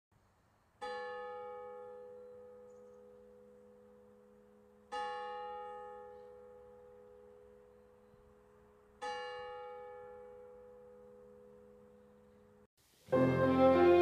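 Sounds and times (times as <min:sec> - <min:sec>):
church bell tolling: 0:00.8 - 0:12.5.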